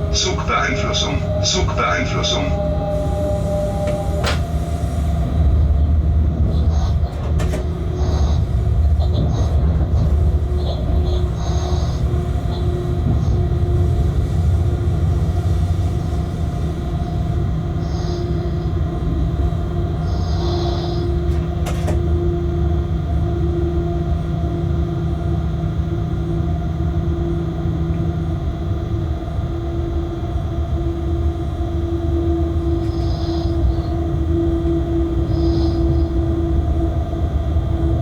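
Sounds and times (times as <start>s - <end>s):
train rumble and hum: 0.0s - 38.0s.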